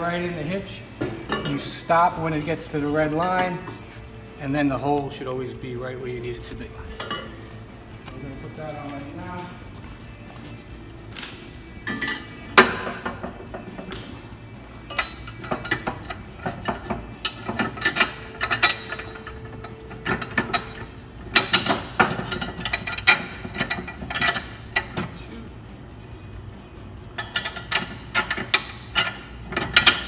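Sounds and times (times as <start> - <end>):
metal hardware clanking: 0.0 - 4.0, 6.2 - 9.6, 11.3 - 25.4, 27.0 - 30.0.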